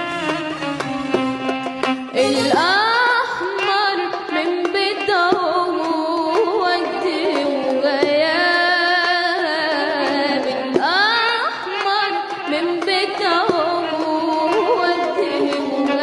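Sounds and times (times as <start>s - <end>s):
girl singing into a microphone: 2.1s - 16.0s.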